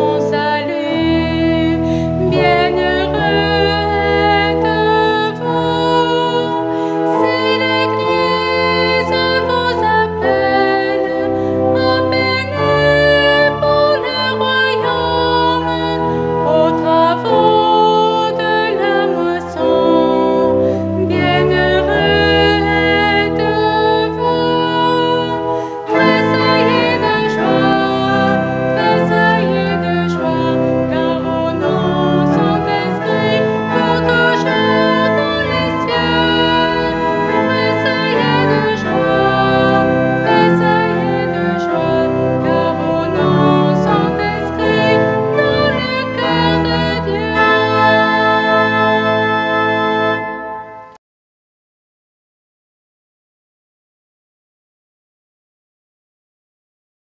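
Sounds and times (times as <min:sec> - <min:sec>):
woman singing: 0:00.0 - 0:50.1
church organ: 0:00.0 - 0:51.0.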